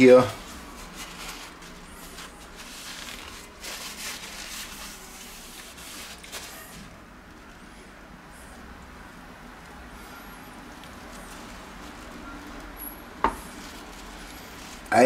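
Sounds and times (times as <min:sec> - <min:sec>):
paper towel rustling on hob: 0:00.0 - 0:07.1, 0:10.0 - 0:15.0.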